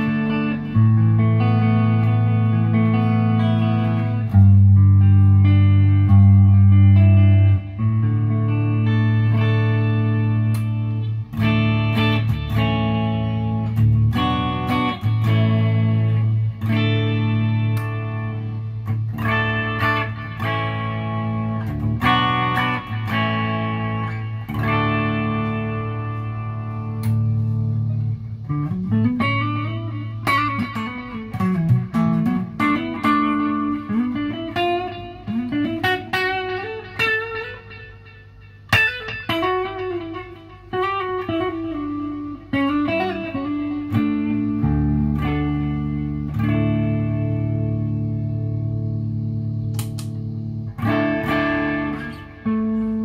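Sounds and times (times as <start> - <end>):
electric guitar playing: 0.0 - 53.0.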